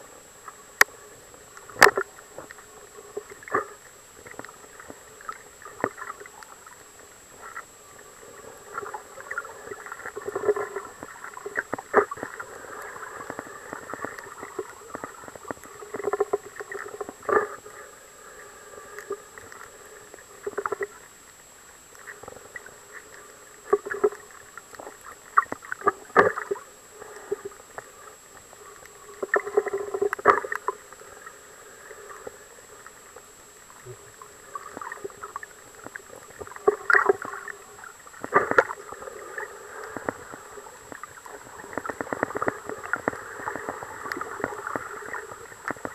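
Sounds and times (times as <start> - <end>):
water movement swells: 0.0 - 45.9
underwater crackling and knocks: 0.4 - 17.8, 18.9 - 21.1, 21.9 - 31.3, 32.2 - 45.9.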